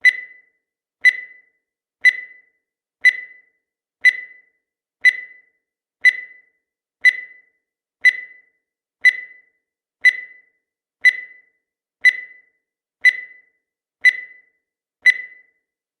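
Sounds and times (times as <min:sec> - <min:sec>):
countdown timer ticking: 0:00.0 - 0:15.5.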